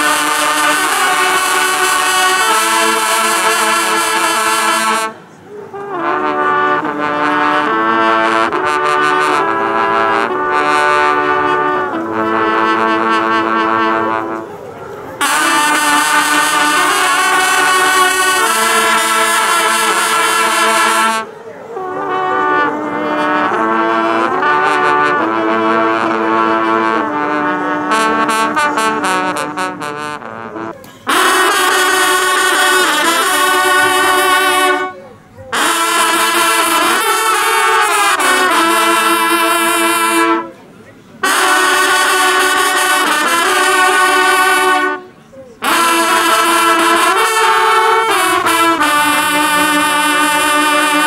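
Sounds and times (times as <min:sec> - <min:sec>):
hunting horns playing in unison: 0:00.0 - 0:51.0.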